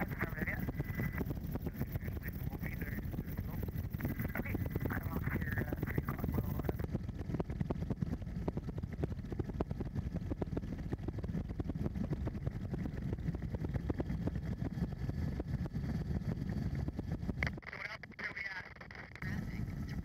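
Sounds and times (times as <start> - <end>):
fast rotor beating: 0.0 - 17.6
helicopter engine drone: 0.0 - 20.0.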